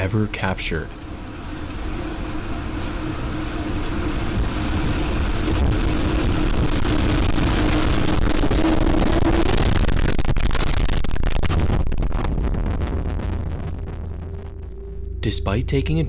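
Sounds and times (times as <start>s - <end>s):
low hum: 0.0s - 16.0s
loud rushing wind: 1.9s - 15.5s.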